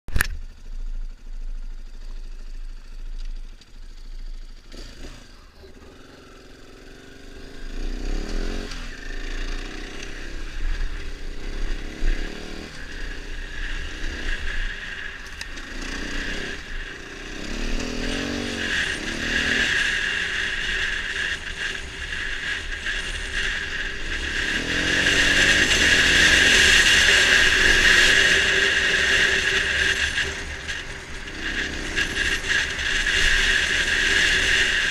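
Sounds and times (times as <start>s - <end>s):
dirt bike engine revving: 4.0s - 34.9s.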